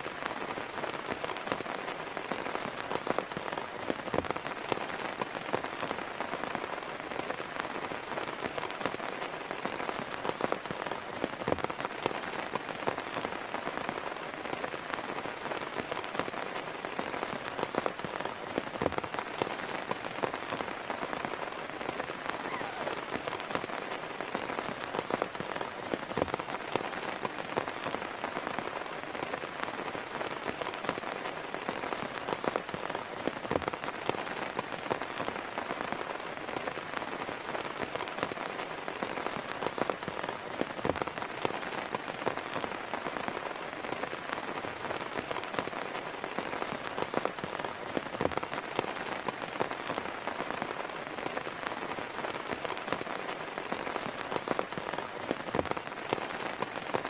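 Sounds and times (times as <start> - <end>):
heavy rain falling: 0.0 - 57.0
raindrops pattering on surface: 0.0 - 57.0.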